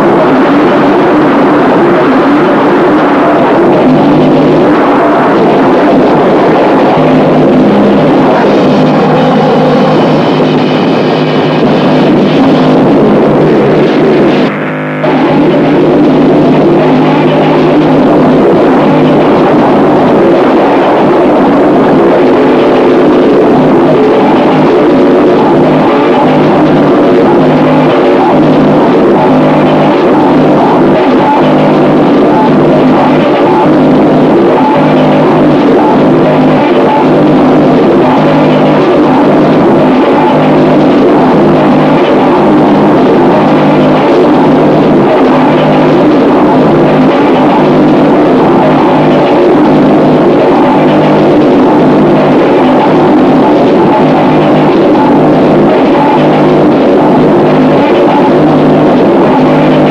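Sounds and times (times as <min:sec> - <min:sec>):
droning pitched layers: 0:00.0 - 0:59.9
harsh distorted noise music: 0:00.0 - 0:59.9.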